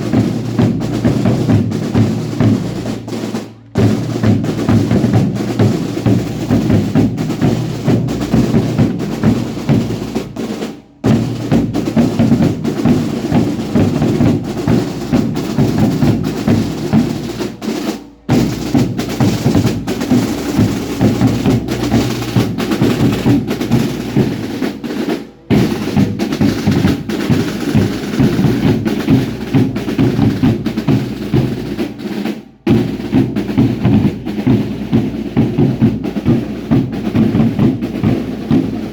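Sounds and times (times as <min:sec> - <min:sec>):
drums beating fast rhythm: 0:00.0 - 0:38.9.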